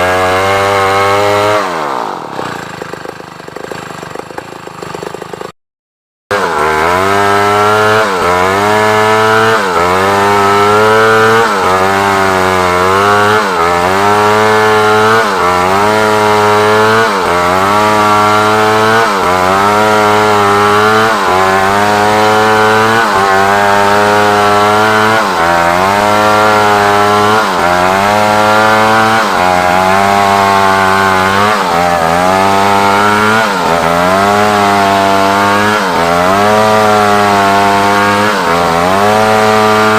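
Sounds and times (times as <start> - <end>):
chainsaw cutting log: 0.0 - 5.6, 6.3 - 39.9.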